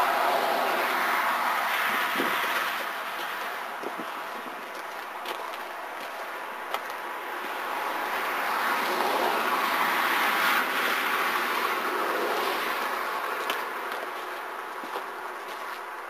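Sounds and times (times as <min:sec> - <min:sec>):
passing vehicle: 0:00.0 - 0:16.0.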